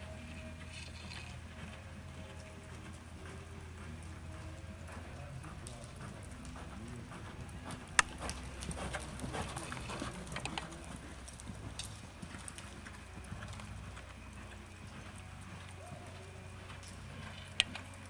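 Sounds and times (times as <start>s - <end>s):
horse hoofbeats on soft dirt: 0.0s - 18.0s.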